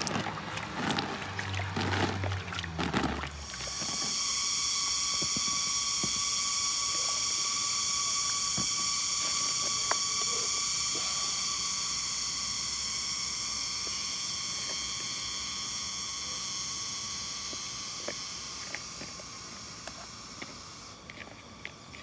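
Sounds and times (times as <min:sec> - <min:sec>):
high-pitched insect chorus: 0:03.4 - 0:22.0.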